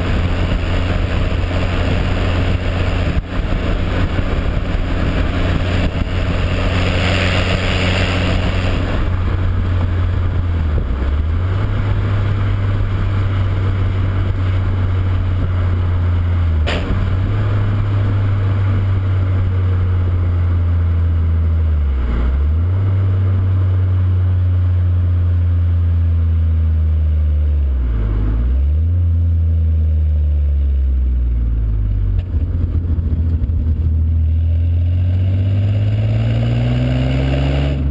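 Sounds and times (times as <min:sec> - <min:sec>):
car exhaust droning: 0:00.0 - 0:37.9.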